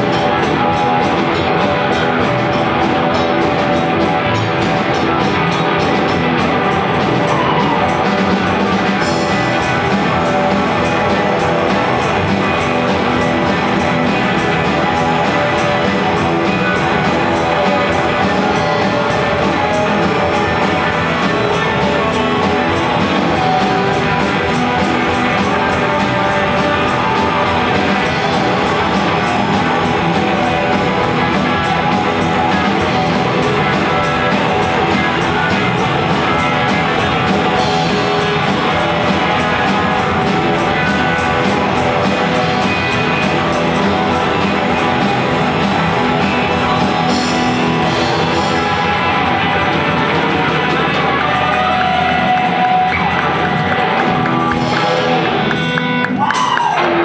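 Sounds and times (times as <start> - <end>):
electric guitar: 0.0 - 57.0
live rock band playing: 0.0 - 57.0.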